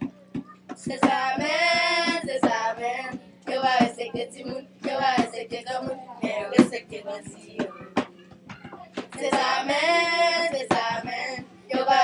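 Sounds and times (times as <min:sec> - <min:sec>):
children singing together: 0:00.3 - 0:08.0, 0:09.1 - 0:12.0.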